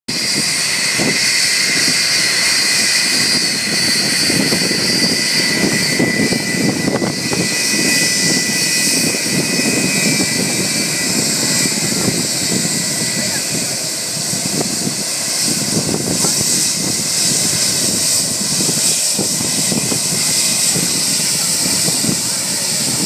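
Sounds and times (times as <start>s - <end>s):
gusty rumble: 0.1s - 23.0s
jet engines whining: 0.1s - 23.0s.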